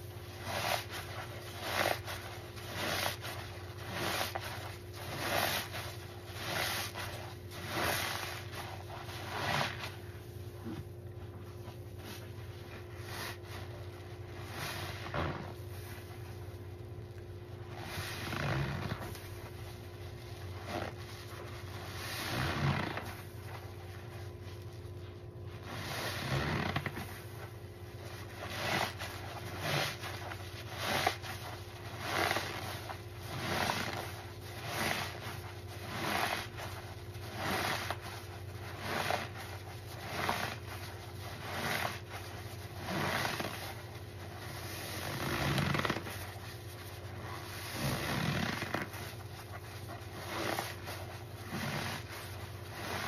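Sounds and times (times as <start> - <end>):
wet sponge squelching: 0.0 - 53.0.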